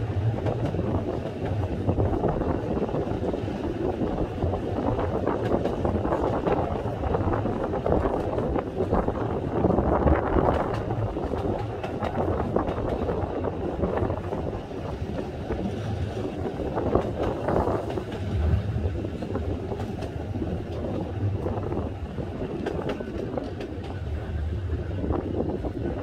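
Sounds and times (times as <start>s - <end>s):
tram wheels rumbling on rail: 0.0s - 26.0s
wind on microphone: 0.1s - 26.0s.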